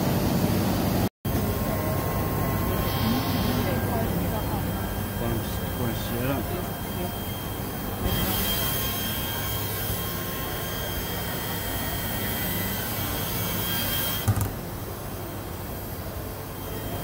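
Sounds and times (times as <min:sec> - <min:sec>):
machine running hum: 0:00.0 - 0:17.0
cutting spindle high whine: 0:01.3 - 0:17.0.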